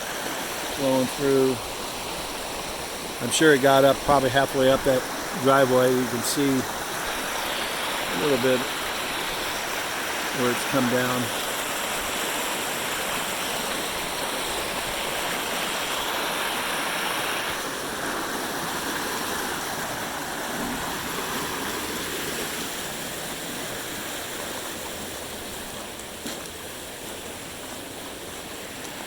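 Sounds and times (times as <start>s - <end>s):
canal water rushing: 0.0s - 29.0s.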